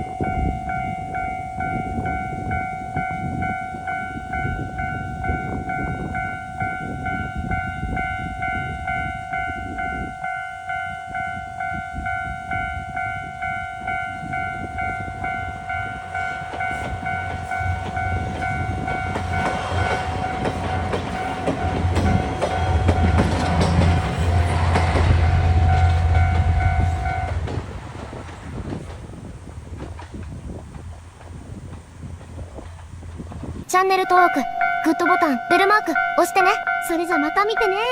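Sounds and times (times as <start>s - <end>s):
level-crossing bell clanging: 0.0s - 27.7s, 33.8s - 37.9s
train wheels clacking on rails: 0.0s - 34.4s
train engine humming: 0.0s - 37.9s.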